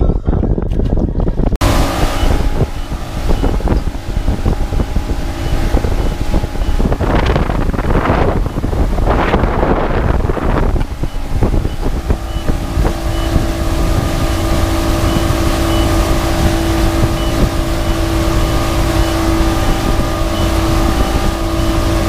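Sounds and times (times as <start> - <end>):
wind: 0.0 - 22.0
motorboat engine: 1.4 - 22.0
rushing water: 1.6 - 22.0.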